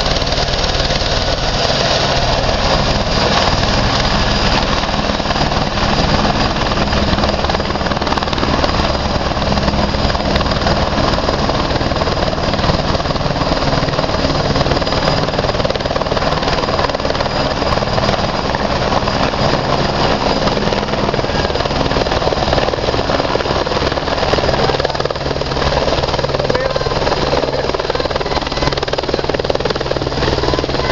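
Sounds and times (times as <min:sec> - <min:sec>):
helicopter rotor and engine: 0:00.0 - 0:30.9.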